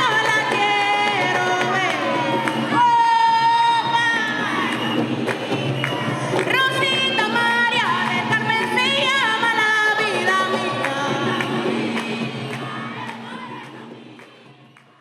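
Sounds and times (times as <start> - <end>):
light percussion: 0.0 - 15.0.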